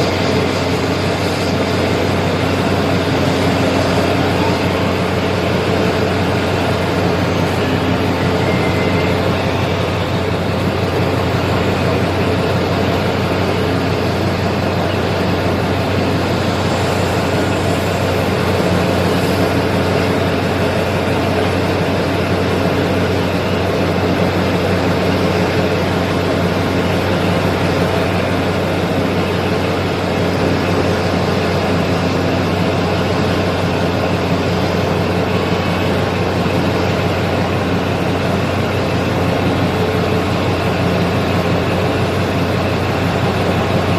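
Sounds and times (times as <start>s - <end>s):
heavy diesel engines droning: 0.0s - 43.9s.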